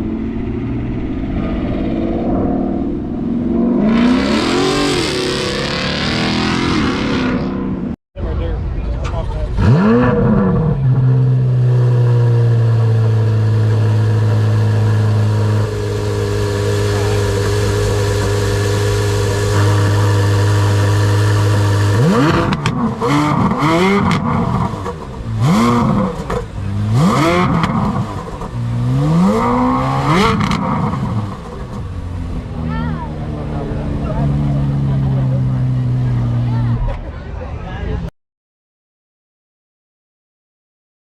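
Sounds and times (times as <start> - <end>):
car engine revving: 0.0 - 8.0, 9.0 - 37.1.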